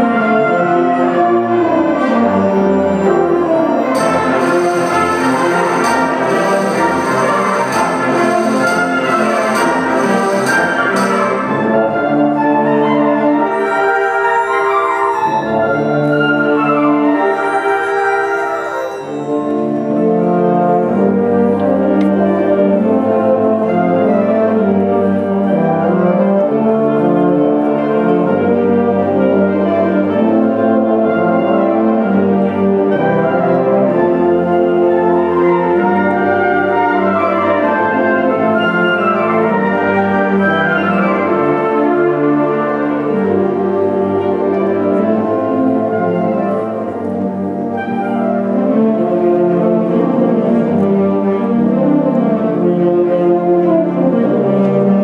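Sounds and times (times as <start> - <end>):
wind band playing sustained chords: 0.0 - 55.0.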